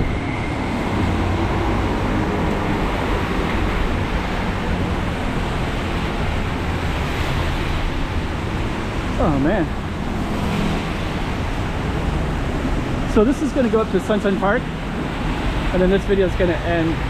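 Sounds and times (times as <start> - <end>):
city street traffic: 0.0 - 17.0
rain: 0.0 - 17.0.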